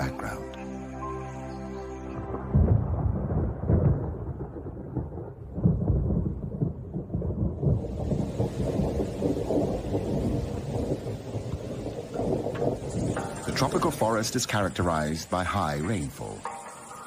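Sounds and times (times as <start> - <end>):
rain hissing: 0.0 - 17.0
thunder rumbling: 2.2 - 17.0.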